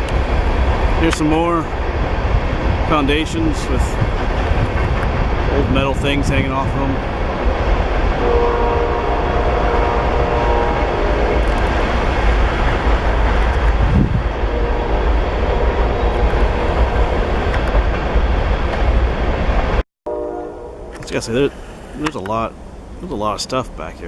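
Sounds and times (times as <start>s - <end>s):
train rail cars rumbling by: 0.0s - 24.0s.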